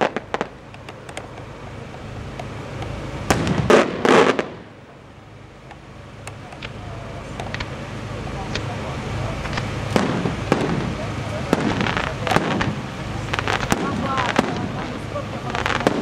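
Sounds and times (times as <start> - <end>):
firework bangs: 0.0 - 16.0
firework cracks: 0.0 - 16.0.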